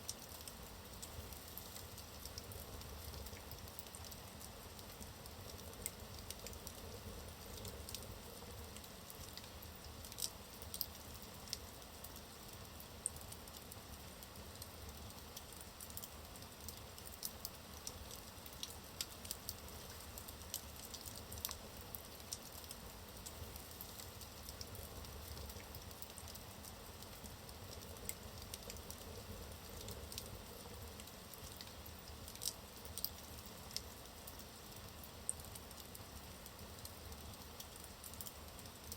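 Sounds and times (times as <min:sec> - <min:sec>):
logs crackling and popping: 0:00.0 - 0:13.8, 0:14.5 - 0:38.9
wood fire hissing: 0:00.0 - 0:38.9.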